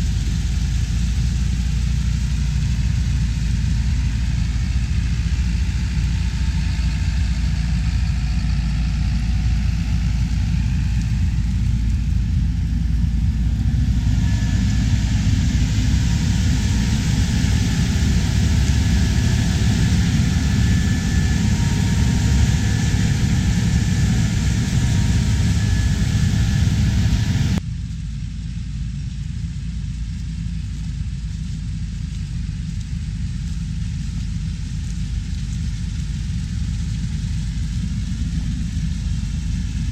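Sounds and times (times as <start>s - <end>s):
heavy machinery engine rumbling: 0.0s - 27.6s, 30.8s - 39.9s.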